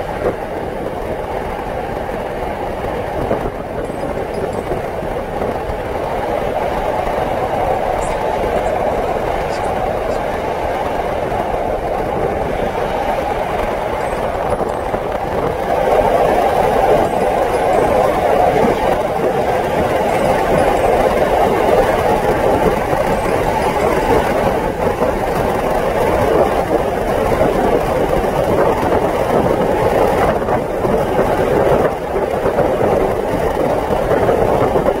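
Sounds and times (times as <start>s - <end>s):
vehicle interior road rumble: 0.0s - 35.0s.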